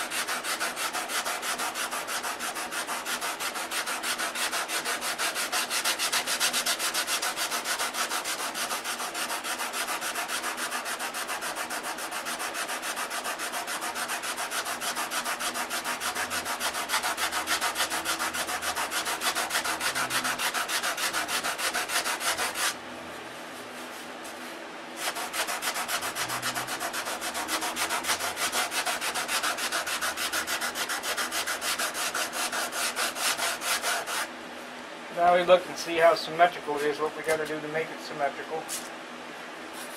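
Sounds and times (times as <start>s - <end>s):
sandpaper rasping on wood: 0.0s - 22.8s, 24.3s - 34.3s.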